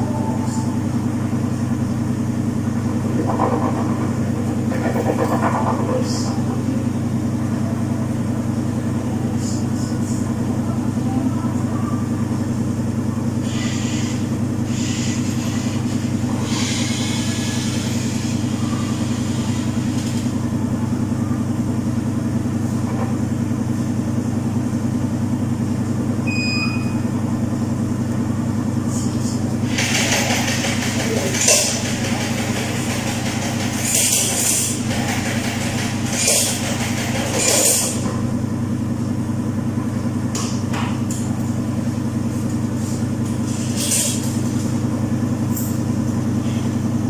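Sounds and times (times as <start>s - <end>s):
washing machine spinning: 0.0s - 47.0s.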